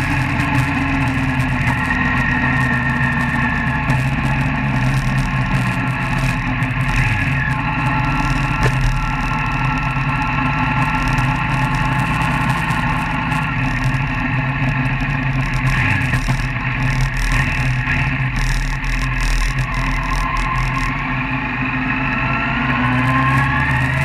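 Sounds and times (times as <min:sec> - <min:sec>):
road noise: 0:00.0 - 0:24.0
vehicle engine accelerating: 0:00.0 - 0:24.0.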